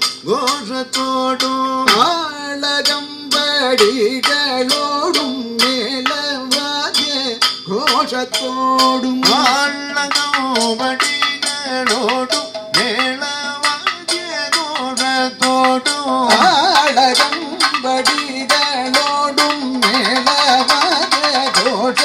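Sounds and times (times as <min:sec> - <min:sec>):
drum strokes: 0:00.0 - 0:22.0
metallic percussion clinking: 0:00.0 - 0:22.0
man singing: 0:00.2 - 0:22.0.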